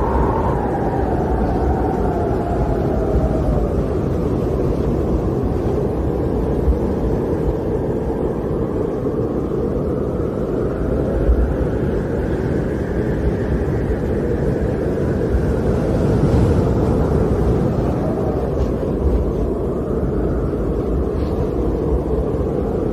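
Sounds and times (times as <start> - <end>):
strong wind howling: 0.0 - 22.9.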